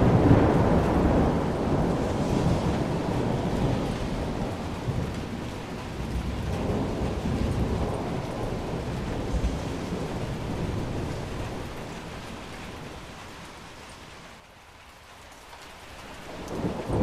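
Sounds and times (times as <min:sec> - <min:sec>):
thunder rumbling: 0:00.0 - 0:13.9, 0:16.3 - 0:17.0
heavy rain falling: 0:00.0 - 0:17.0.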